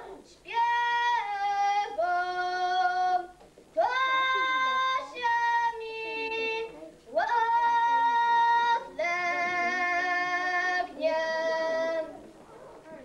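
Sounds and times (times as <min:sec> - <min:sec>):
girl singing unaccompanied: 0:00.0 - 0:12.4.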